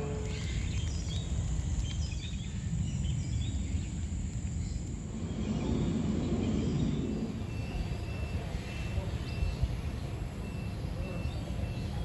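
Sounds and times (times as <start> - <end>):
steady low rumble: 0.0 - 10.4.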